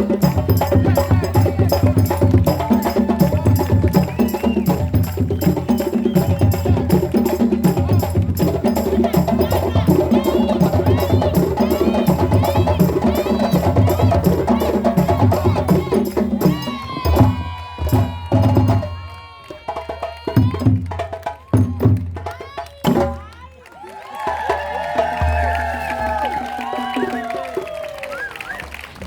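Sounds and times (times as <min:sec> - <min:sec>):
fast hand drumming: 0:00.0 - 0:23.5.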